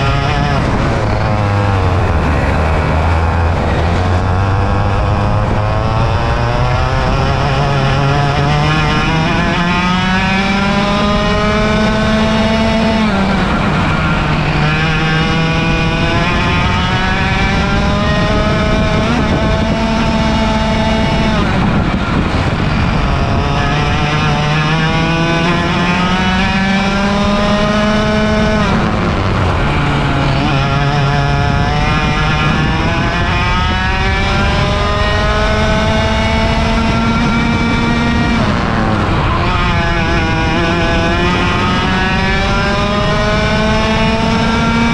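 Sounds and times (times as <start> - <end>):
kart engine at full throttle: 0.0 - 44.9.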